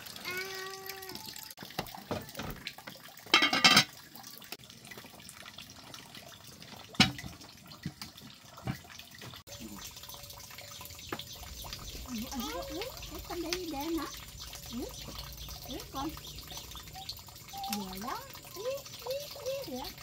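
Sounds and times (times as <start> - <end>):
water gushing: 0.0 - 20.0
water splashing and trickling: 0.0 - 20.0.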